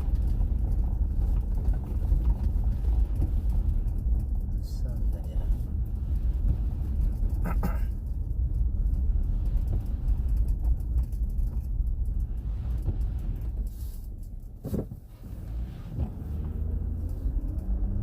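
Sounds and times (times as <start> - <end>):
car interior engine and road noise: 0.0 - 18.0.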